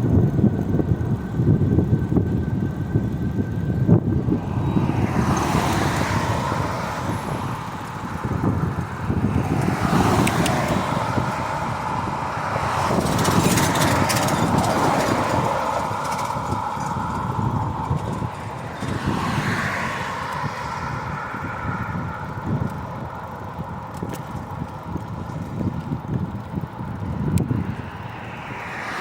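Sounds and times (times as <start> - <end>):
cars passing with tyre noise: 0.0 - 29.0
low traffic rumble: 0.0 - 29.0.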